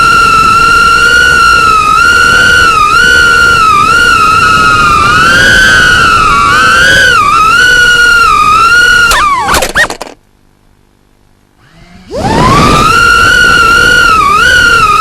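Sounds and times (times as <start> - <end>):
drone motors whining: 0.0 - 10.2, 11.6 - 15.0.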